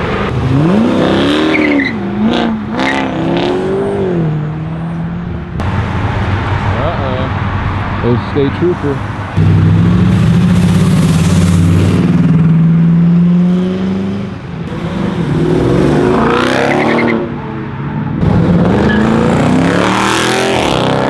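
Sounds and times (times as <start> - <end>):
car engine revving: 0.0 - 4.6, 5.6 - 21.0.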